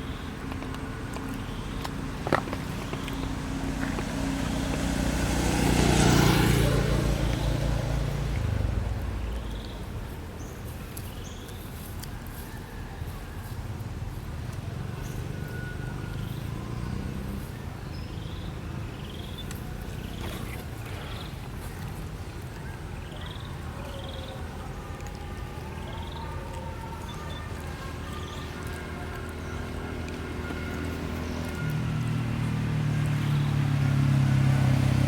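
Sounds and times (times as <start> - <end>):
motor vehicle passing by: 0.0 - 35.0.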